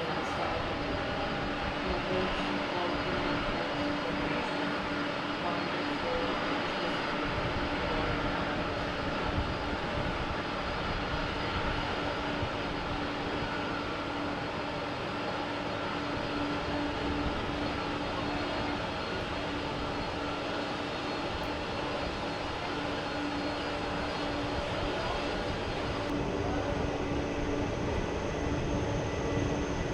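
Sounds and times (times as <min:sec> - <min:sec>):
jet engines running: 0:00.0 - 0:29.9.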